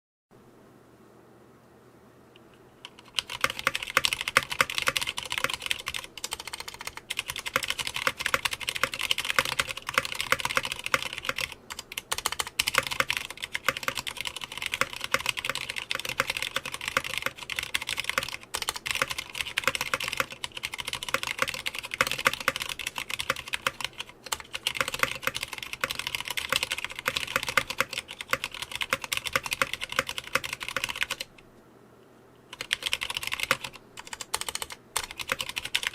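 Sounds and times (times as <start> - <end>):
mechanical keyboard typing: 2.8 - 31.4, 32.5 - 35.9.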